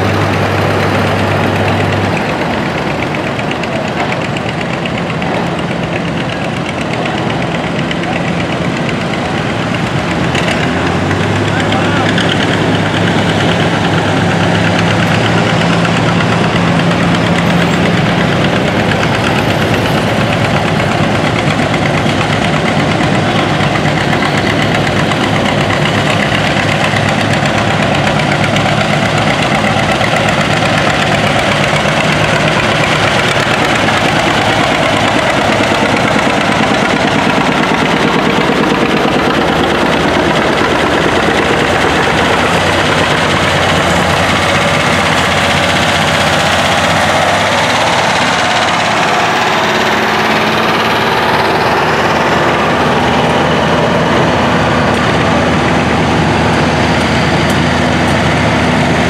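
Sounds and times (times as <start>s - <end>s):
tractor engines running slowly: 0.0s - 59.0s.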